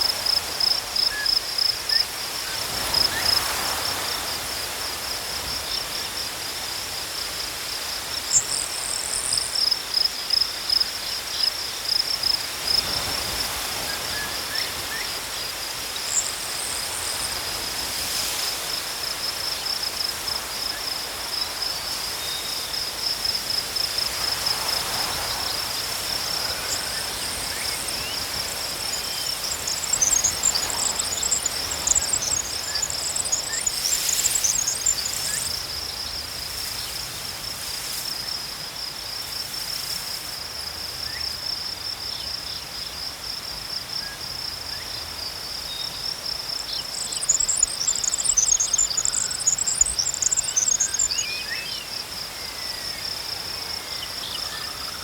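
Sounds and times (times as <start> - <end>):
crickets trilling: 0.0 - 55.0
higher insect chirping: 0.0 - 55.0.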